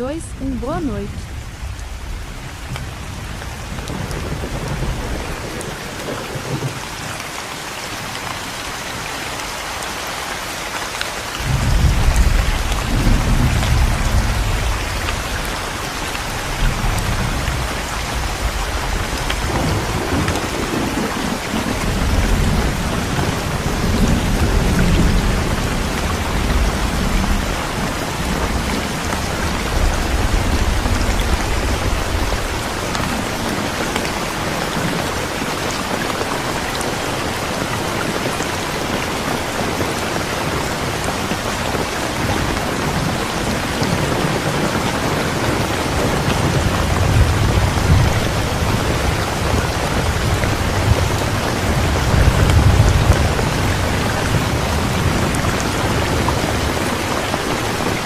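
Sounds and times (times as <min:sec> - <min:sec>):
thunder rumbling: 0:00.0 - 0:07.4, 0:11.4 - 0:58.0
heavy rain: 0:00.0 - 0:58.0.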